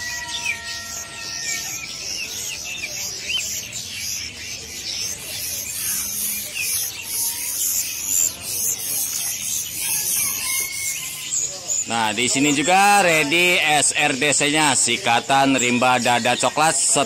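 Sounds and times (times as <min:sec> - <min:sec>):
songbirds chirping in chorus: 0:00.0 - 0:17.0.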